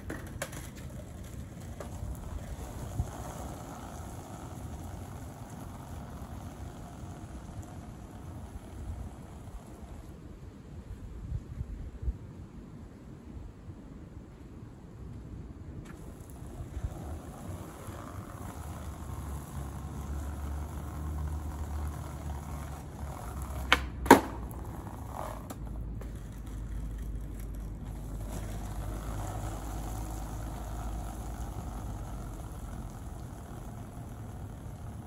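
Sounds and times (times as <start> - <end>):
skateboard clacking on ground: 0.0 - 10.2, 15.8 - 35.0
skateboard wheels rolling on pavement: 0.0 - 35.0.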